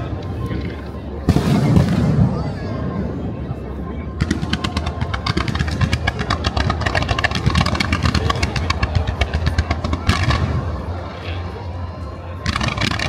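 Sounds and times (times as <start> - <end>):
fireworks sharp reports: 0.0 - 13.0.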